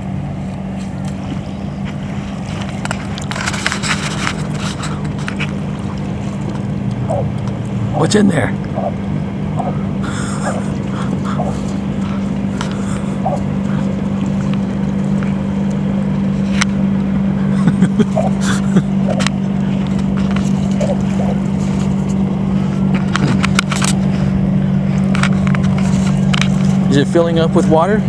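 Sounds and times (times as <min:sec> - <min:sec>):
motor droning: 0:00.0 - 0:28.0.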